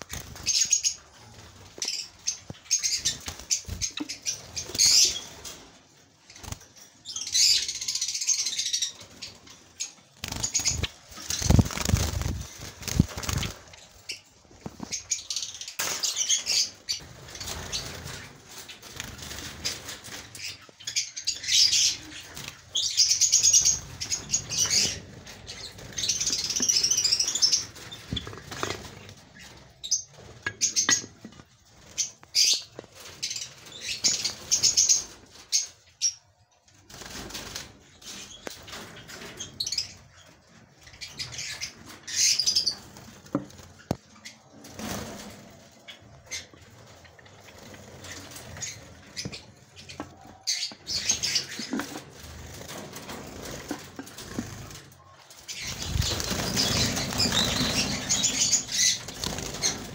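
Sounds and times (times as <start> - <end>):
wing flutters and rustles: 0.0 - 7.7, 8.6 - 35.9, 36.7 - 59.9
sparrows chirping: 0.0 - 59.9.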